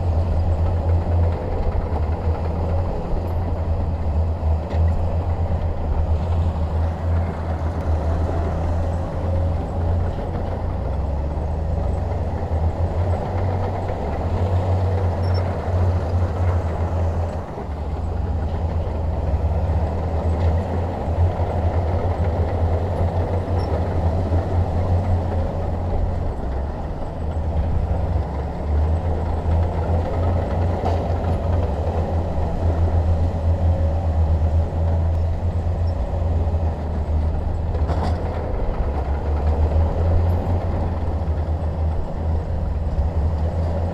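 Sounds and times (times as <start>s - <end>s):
bulldozer diesel engine rumbling: 0.0s - 43.9s.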